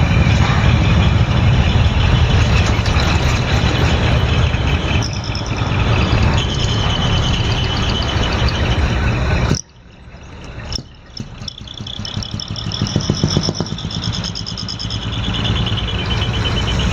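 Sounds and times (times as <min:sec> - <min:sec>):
high pulsing tone: 0:00.0 - 0:09.9, 0:10.6 - 0:16.9
diesel truck engine rumbling: 0:00.0 - 0:16.9.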